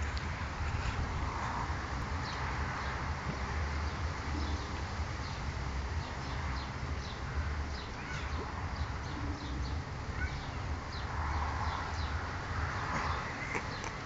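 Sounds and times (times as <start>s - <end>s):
low outdoor rumble: 0.0s - 14.0s
small birds chirping: 2.1s - 14.0s.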